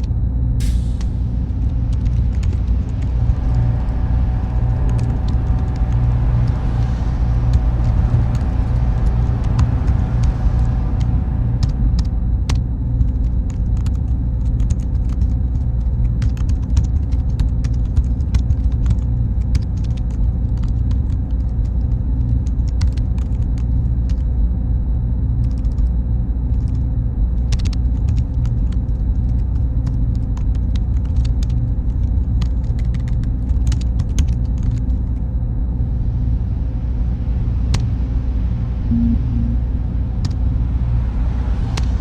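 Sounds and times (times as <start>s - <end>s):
faint constant tone: 0.0s - 42.0s
machines and fans humming: 0.0s - 42.0s.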